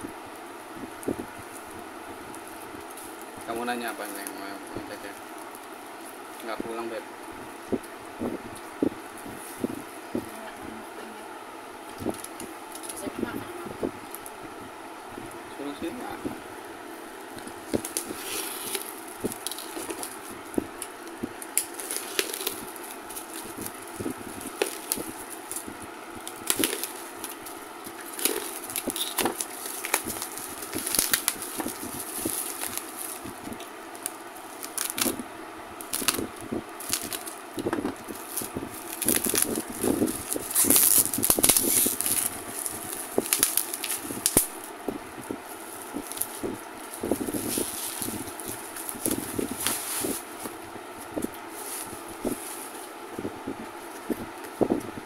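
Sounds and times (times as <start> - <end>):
plastic wrapping crackling: 0.9 - 10.6, 11.9 - 14.4, 16.9 - 55.0.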